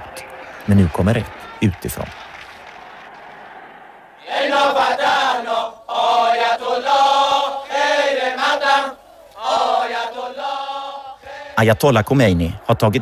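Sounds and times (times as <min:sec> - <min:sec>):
crowd chanting in unison: 0:02.2 - 0:13.0.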